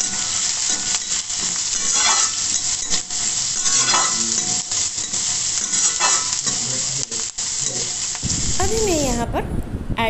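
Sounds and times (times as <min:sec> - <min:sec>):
spatula scraping pan: 0:00.0 - 0:08.2
vegetables sizzling in oil: 0:00.0 - 0:09.2.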